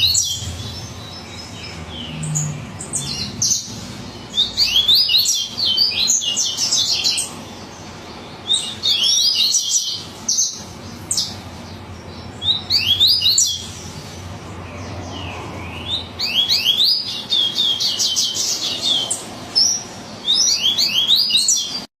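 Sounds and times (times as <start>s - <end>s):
bird singing fast rising chirps: 0.0s - 21.9s.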